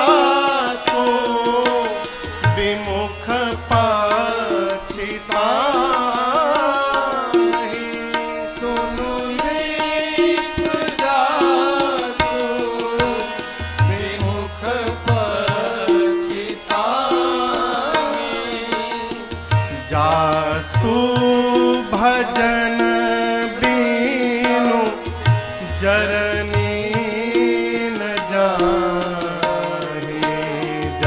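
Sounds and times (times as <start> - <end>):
man singing devotional song: 0.0 - 31.0
tabla strokes: 0.0 - 31.0.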